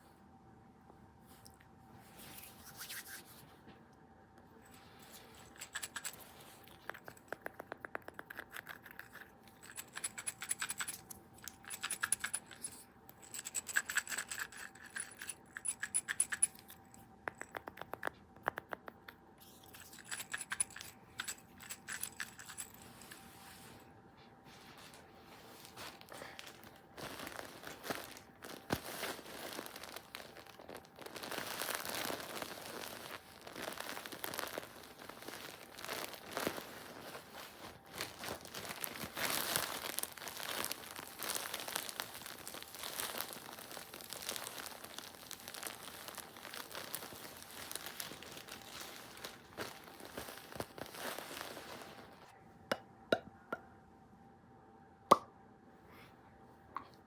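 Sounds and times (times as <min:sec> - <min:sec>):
faint steady hum: 0:00.0 - 0:57.0
rustling crinkle: 0:04.6 - 0:18.0, 0:19.4 - 0:52.4.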